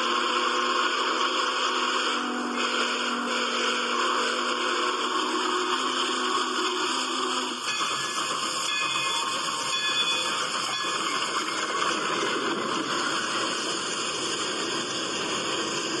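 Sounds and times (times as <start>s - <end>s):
steam locomotives rushing past: 0.0s - 16.0s.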